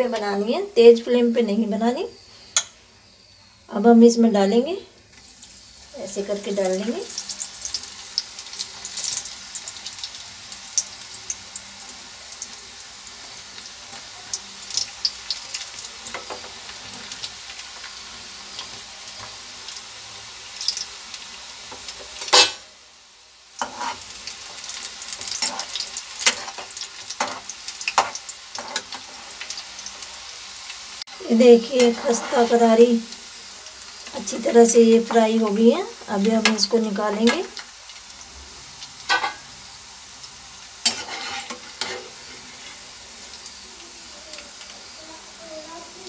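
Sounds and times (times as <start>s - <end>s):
deep-frying sizzle with pops: 0.0s - 46.0s.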